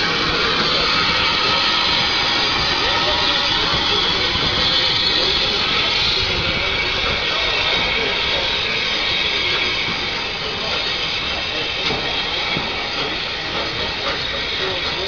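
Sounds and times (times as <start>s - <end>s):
steam hissing: 0.0s - 15.0s
steam locomotive pulling away: 0.0s - 15.0s.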